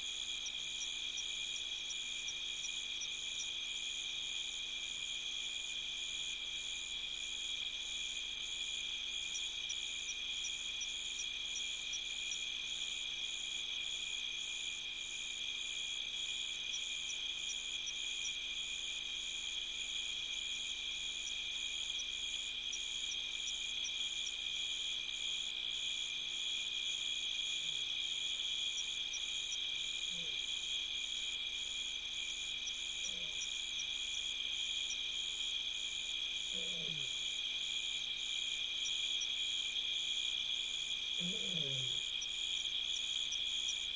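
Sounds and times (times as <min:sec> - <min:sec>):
crickets trilling: 0:00.1 - 0:43.9.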